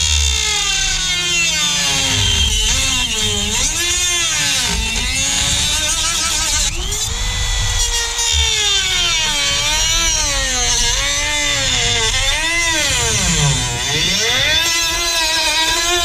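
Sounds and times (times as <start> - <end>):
rotary tool motor whine: 0.0 - 16.0.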